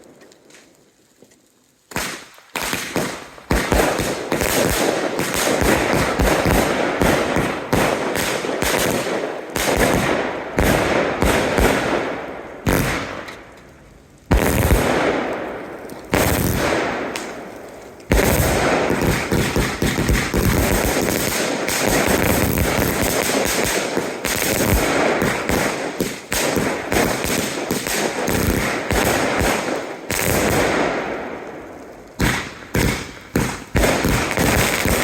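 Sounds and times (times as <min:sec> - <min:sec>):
fireworks bangs and crackle: 0:00.0 - 0:35.0
firework booms: 0:01.9 - 0:13.6, 0:14.3 - 0:35.0.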